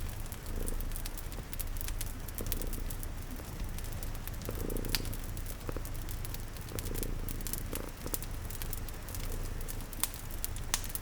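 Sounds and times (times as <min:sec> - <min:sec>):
cat purring: 0:00.0 - 0:11.0
fire crackling and popping: 0:00.0 - 0:11.0
rain pattering: 0:00.0 - 0:11.0.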